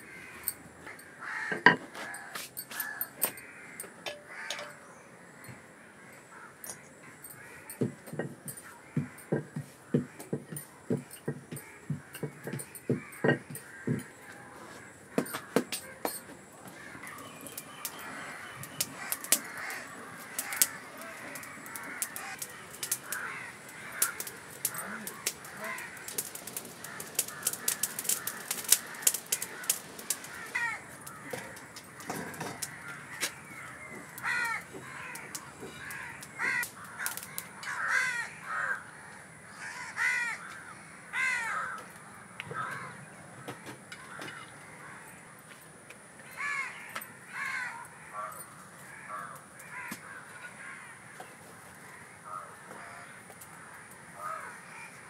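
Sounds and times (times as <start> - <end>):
crows cawing: 0.0 - 45.5, 46.2 - 55.0.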